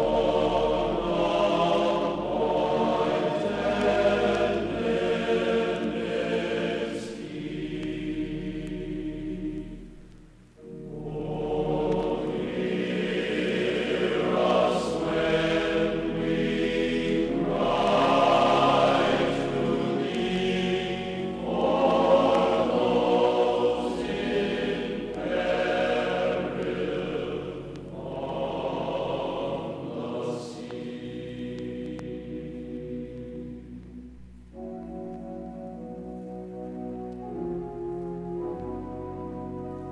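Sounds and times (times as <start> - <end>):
choir holding sustained chords: 0.0 - 39.9.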